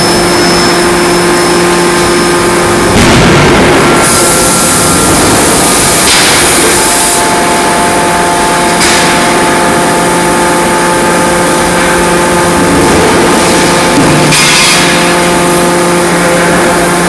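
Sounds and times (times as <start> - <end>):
constant machine hum: 0.0 - 17.0
forge machinery running: 0.0 - 17.0.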